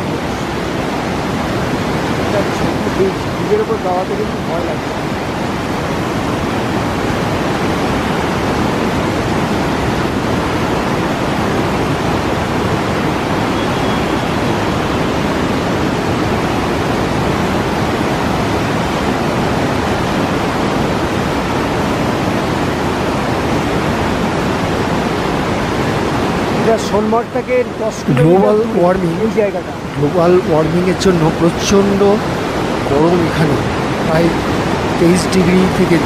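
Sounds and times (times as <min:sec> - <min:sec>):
river rushing loudly: 0:00.0 - 0:36.0.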